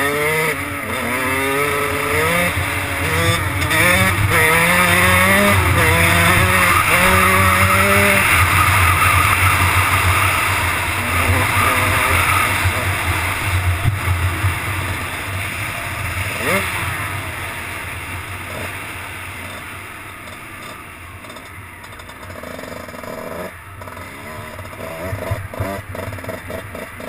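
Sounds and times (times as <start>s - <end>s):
motorbike engine revving and shifting: 0.0s - 27.0s.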